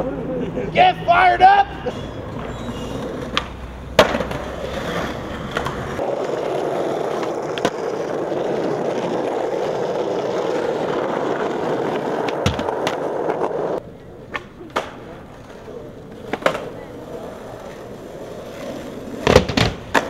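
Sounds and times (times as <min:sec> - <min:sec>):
skateboard wheels rolling rumble: 0:02.0 - 0:20.0
skateboard clacks: 0:02.3 - 0:20.0.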